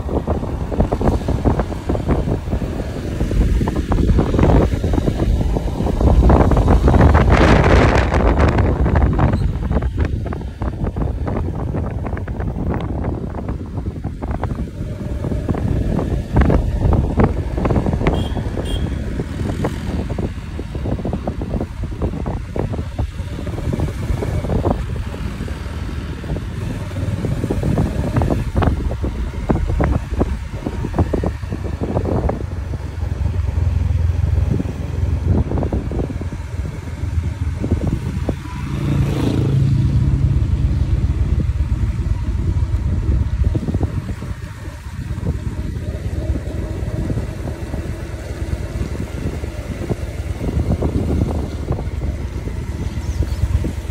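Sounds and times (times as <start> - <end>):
motorcycle engine rumble: 0.0 - 53.9
wind buffeting microphone: 0.0 - 53.9.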